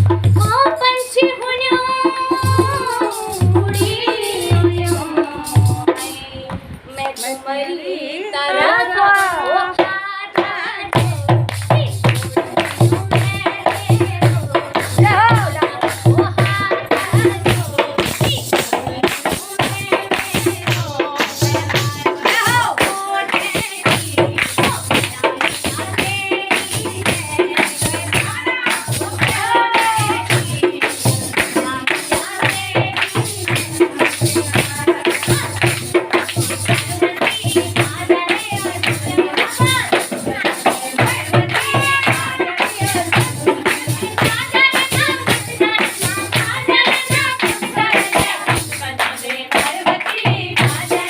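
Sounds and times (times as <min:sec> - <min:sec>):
steady drum beat: 0:00.0 - 0:06.2, 0:09.8 - 0:51.0.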